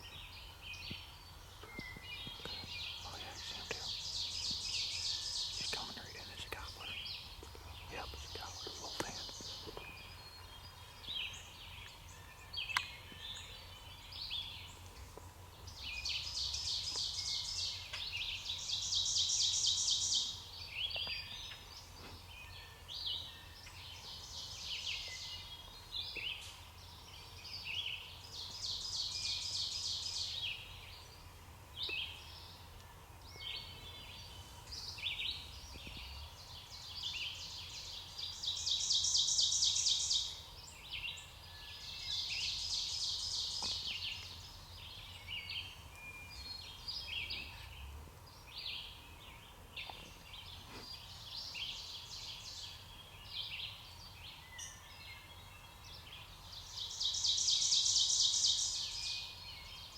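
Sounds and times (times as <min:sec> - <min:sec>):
bird song of repeated high notes: 0:00.0 - 0:14.9, 0:15.5 - 0:59.9
songbirds chirping: 0:00.0 - 0:59.9.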